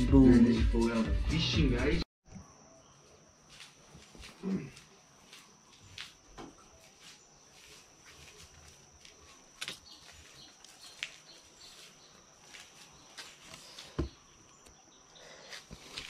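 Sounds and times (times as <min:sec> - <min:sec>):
high-pitched insect trill: 0:02.6 - 0:16.0.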